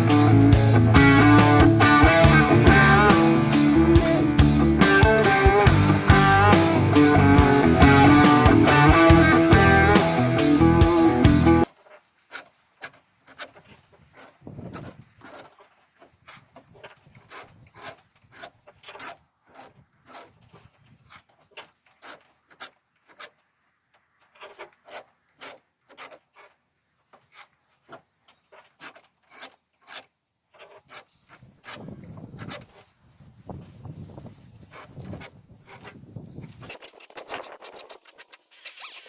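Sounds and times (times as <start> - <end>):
hand file rasping on chain: 1.2 - 10.1, 10.9 - 23.4, 24.2 - 26.6, 27.2 - 32.8, 34.6 - 39.0.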